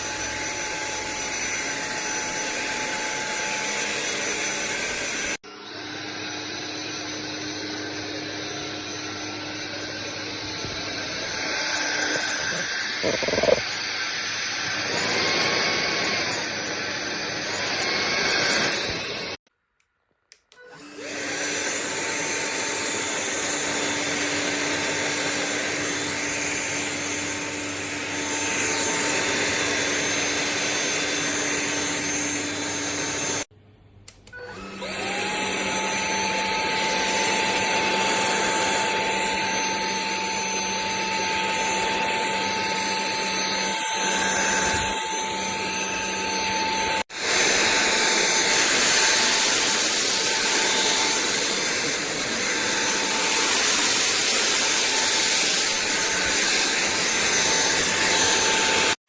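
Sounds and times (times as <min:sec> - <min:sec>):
vacuum cleaner motor whine: 0:00.0 - 0:19.4, 0:20.5 - 0:33.5, 0:34.3 - 0:59.0.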